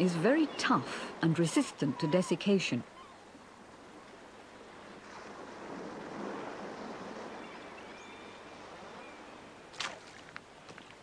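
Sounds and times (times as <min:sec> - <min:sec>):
sea waves on rocky shore: 0:00.0 - 0:10.4.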